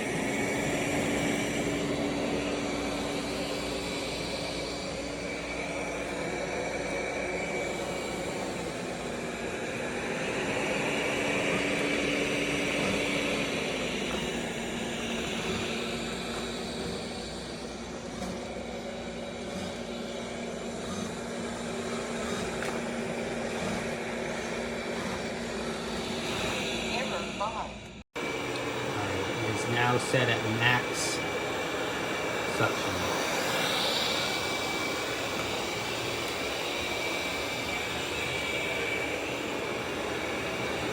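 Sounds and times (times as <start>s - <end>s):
robot vacuum whirring hum: 0.0s - 40.9s.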